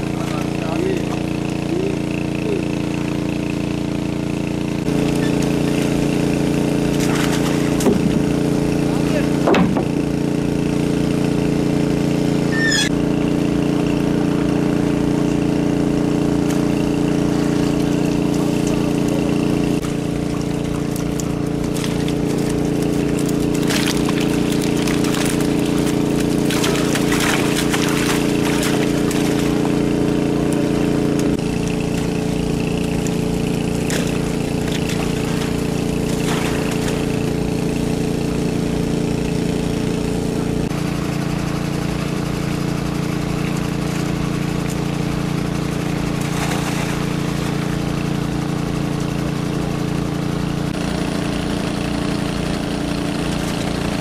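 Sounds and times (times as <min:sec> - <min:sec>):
fish splashing and flapping: 0:00.0 - 0:54.0.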